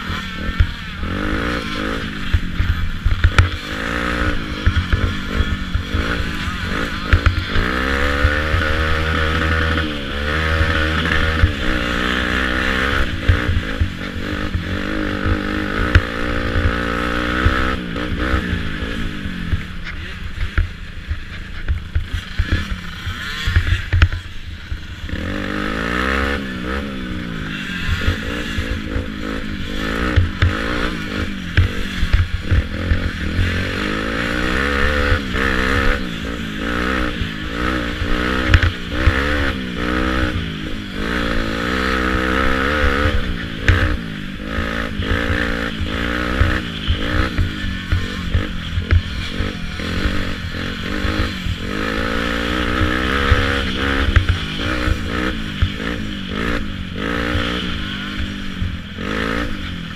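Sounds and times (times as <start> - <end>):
buffeting and knocks from rough ride: 0.0 - 24.2, 26.9 - 59.9
atv engine revving: 0.0 - 59.9.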